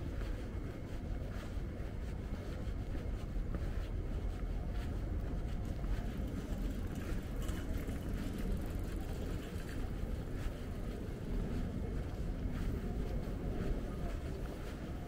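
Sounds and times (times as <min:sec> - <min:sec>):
low rumble of city ambience: 0:00.0 - 0:15.0.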